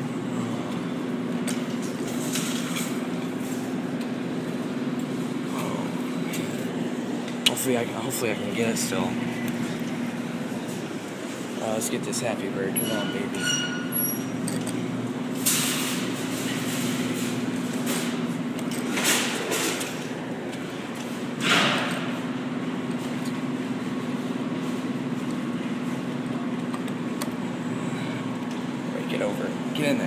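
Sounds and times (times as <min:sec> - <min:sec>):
claw machine mechanical hum: 0:00.0 - 0:30.0.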